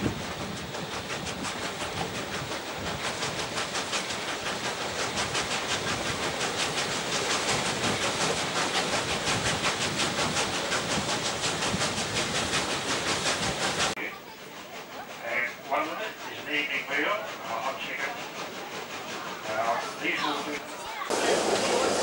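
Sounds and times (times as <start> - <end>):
steam locomotive exhaust beats: 0.0 - 22.0.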